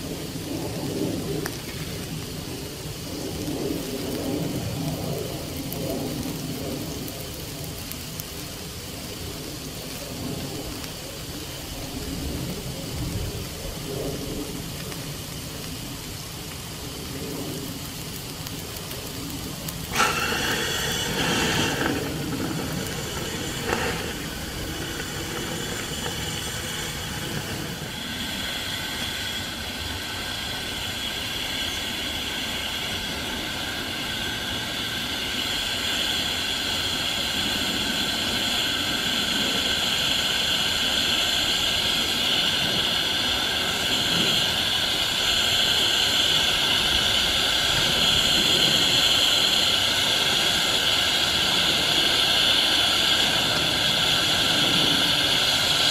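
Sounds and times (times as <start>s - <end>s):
steam hissing: 0.0s - 55.9s.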